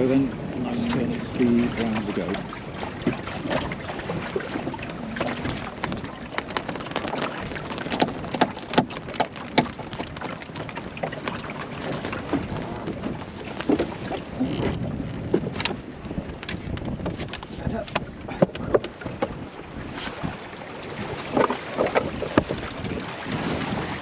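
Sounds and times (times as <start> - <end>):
water slapping against boat hull: 0.0 - 24.0.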